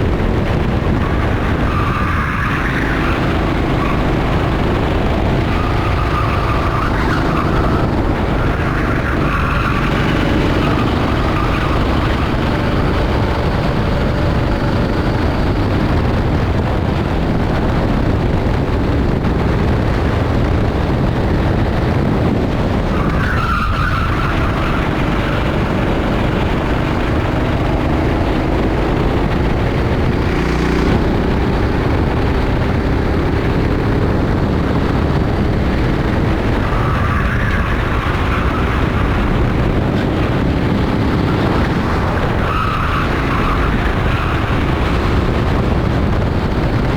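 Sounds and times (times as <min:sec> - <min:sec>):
kart engine revving: 0:00.0 - 0:46.9
tyre and track noise: 0:00.0 - 0:46.9.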